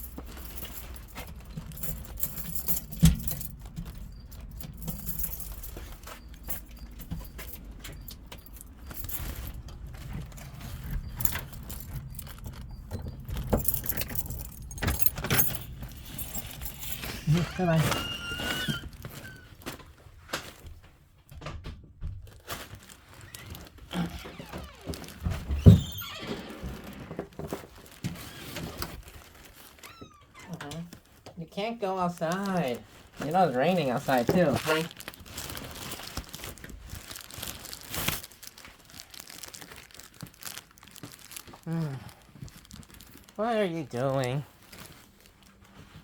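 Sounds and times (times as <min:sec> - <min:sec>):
rustling: 0:00.0 - 0:21.0, 0:22.3 - 0:46.0.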